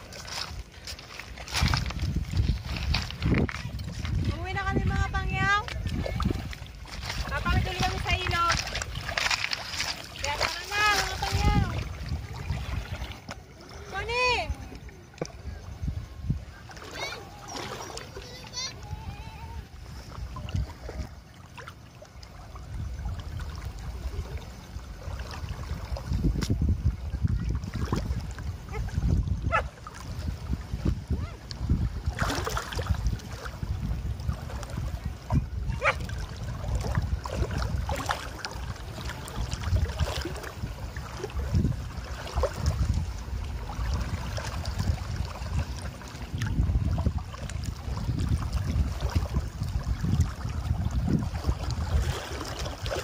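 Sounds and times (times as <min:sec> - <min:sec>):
water sloshing and splashing: 0:00.0 - 0:53.0
wind buffeting microphone: 0:00.0 - 0:53.0.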